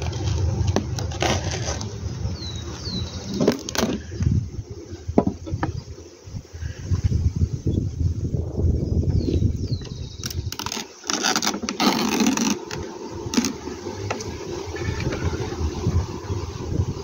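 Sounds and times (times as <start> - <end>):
bee smoker puffing: 0.0 - 17.0.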